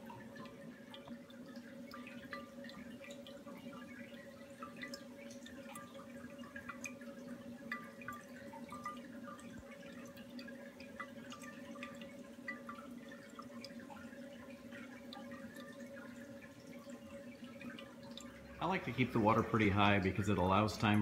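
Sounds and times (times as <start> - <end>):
drops plinking into liquid: 0.0 - 18.6
steady low hum: 0.0 - 21.0.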